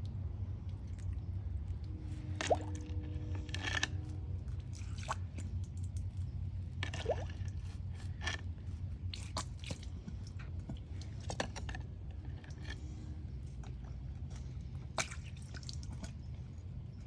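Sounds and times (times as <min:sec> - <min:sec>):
low hum: 0:00.0 - 0:17.0
wet squishes and drips: 0:00.0 - 0:17.0.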